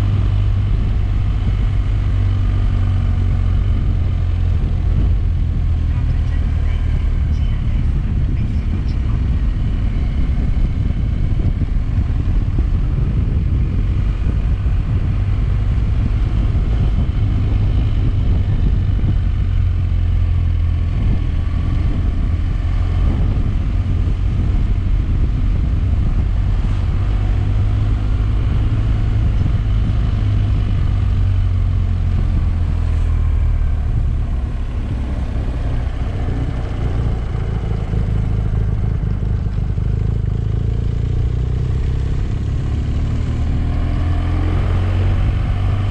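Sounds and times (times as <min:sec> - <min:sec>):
low rumble: 0:00.0 - 0:45.9
motorcycle engine running: 0:00.0 - 0:45.9.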